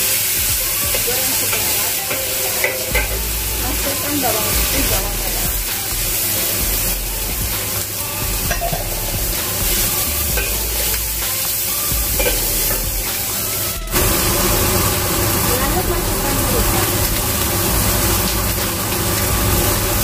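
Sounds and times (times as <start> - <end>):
food sizzling in hot oil: 0.0 - 20.0
metal spatula scraping wok: 0.0 - 20.0.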